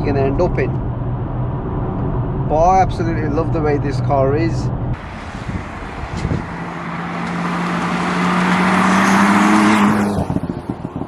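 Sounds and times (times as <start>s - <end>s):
car engine accelerating: 0.2s - 11.0s.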